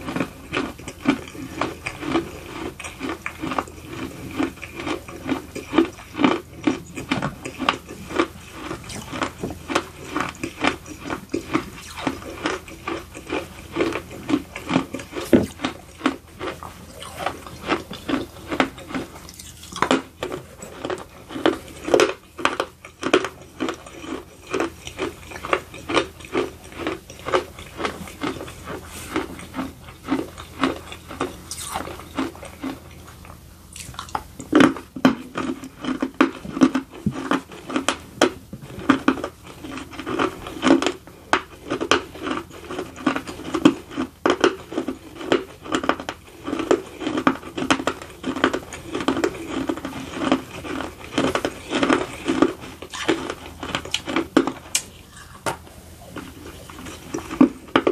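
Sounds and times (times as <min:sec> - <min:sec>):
person chewing crunchy food: 0:00.0 - 0:57.9.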